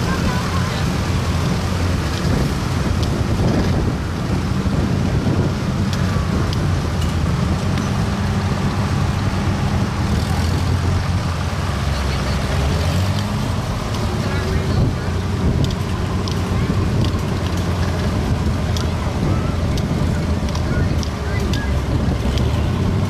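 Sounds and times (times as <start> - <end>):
tractor engines driving past: 0.0 - 23.0.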